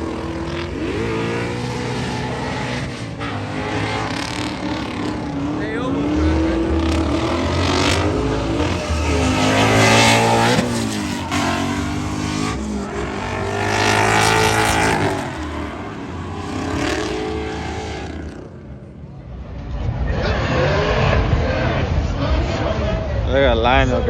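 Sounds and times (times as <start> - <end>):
car engine revving hard: 0.0 - 18.7, 20.2 - 22.9.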